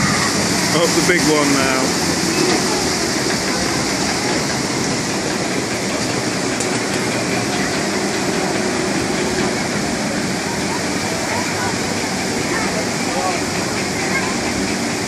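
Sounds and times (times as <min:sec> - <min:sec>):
lift conveyor running: 0:00.0 - 0:15.0
water rushing down chutes: 0:00.0 - 0:15.0.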